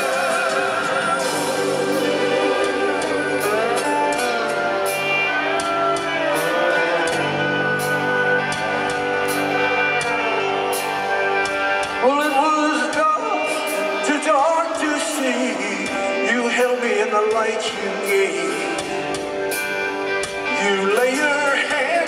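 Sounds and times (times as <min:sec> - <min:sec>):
live band playing instrumental: 0:00.0 - 0:22.0.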